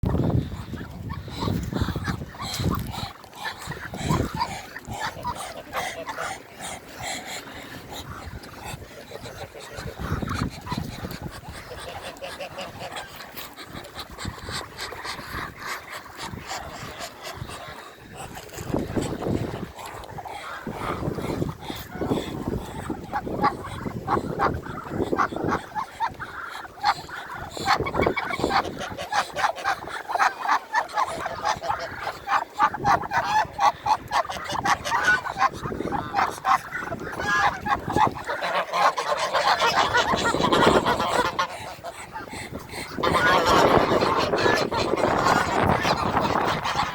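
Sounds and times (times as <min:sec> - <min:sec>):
geese honking: 0:00.1 - 0:46.9.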